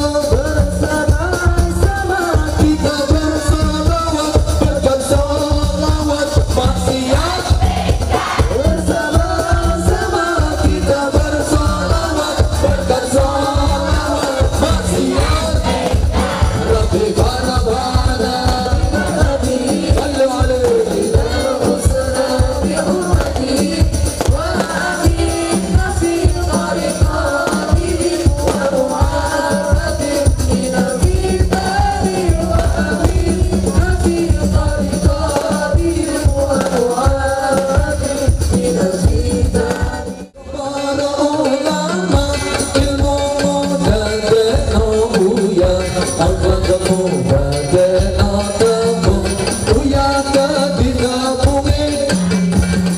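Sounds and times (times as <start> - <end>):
fast drum rhythm: 0.0 - 52.9
man singing through a pa: 0.0 - 52.9
voices singing along: 0.0 - 52.9.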